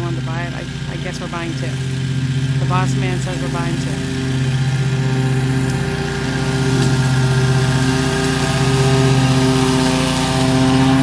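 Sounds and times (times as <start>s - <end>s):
mower engine running: 0.0s - 11.0s.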